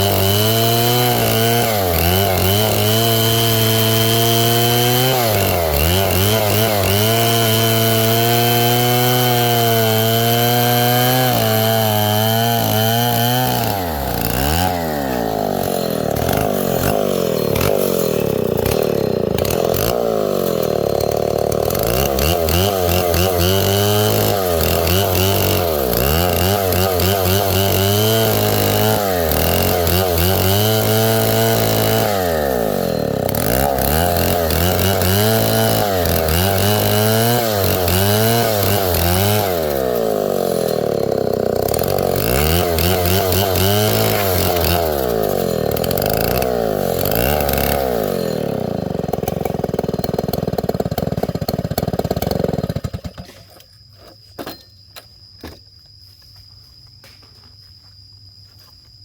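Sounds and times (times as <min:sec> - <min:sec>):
chainsaw revving: 0:00.0 - 0:53.6.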